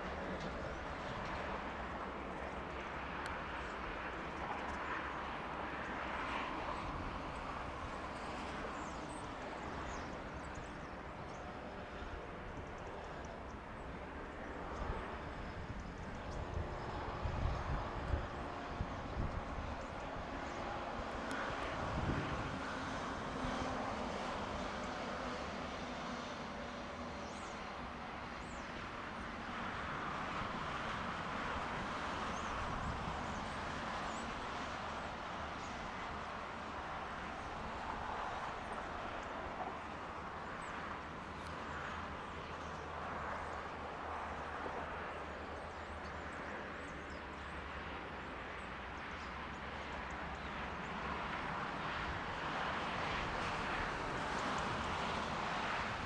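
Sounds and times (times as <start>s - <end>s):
outdoor background hum: 0.0s - 56.0s.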